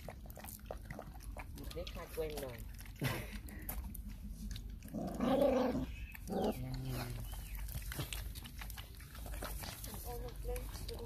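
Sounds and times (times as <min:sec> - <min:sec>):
puppies eating from plastic bowl: 0:00.0 - 0:11.0.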